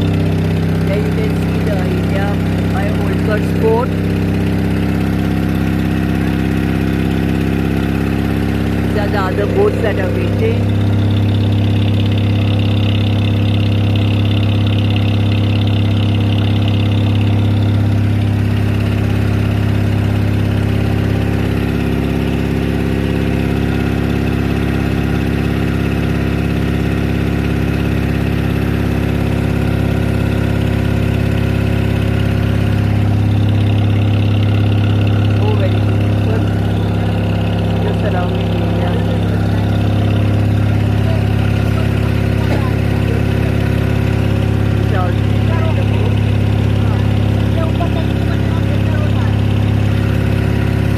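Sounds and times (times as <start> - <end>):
motorboat engine humming: 0.0 - 50.9.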